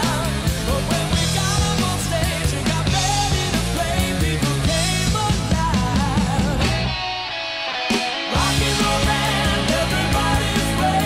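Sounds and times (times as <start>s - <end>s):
steady drum beat: 0.0s - 7.1s, 7.9s - 11.0s
rock music with singing: 0.0s - 11.0s.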